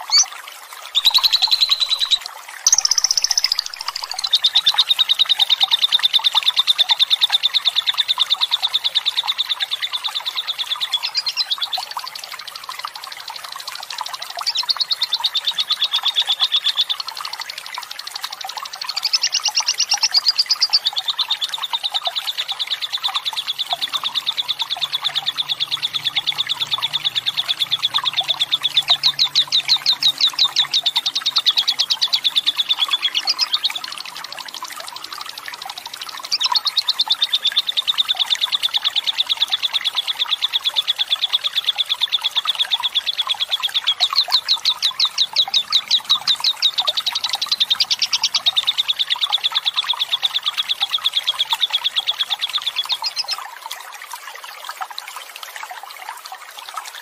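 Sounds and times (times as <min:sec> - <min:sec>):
trickle of running water: 0:00.0 - 0:57.0.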